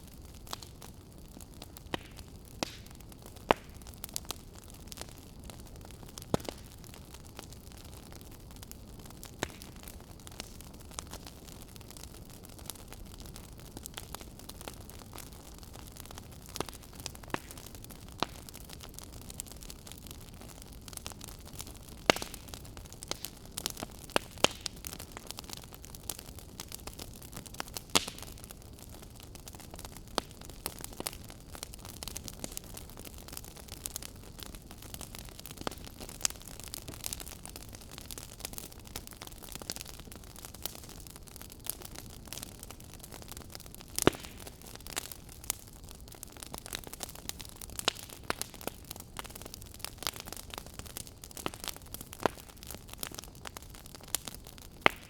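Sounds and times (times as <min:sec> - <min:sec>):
log fire crackling: 0:00.0 - 0:55.0.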